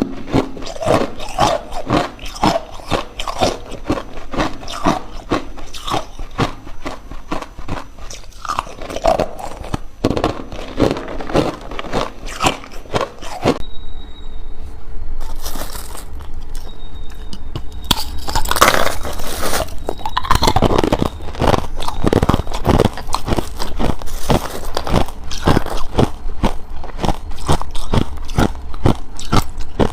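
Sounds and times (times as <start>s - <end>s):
ice cubes crunching in mouth: 0.0s - 13.6s, 15.2s - 16.7s, 17.8s - 29.9s.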